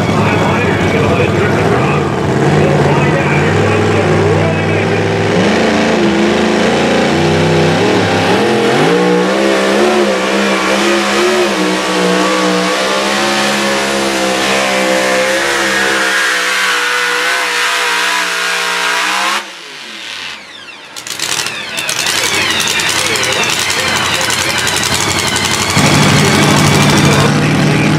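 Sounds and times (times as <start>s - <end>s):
truck engine at full throttle: 0.0s - 27.9s.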